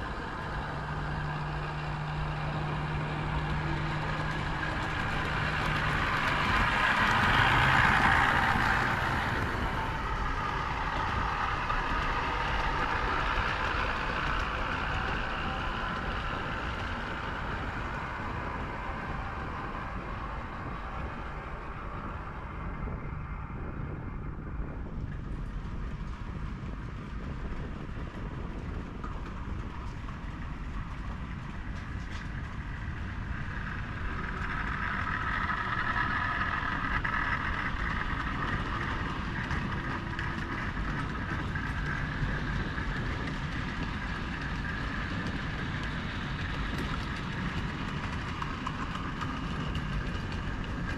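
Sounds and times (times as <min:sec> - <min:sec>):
model train rumbling whir: 0:00.0 - 0:50.9.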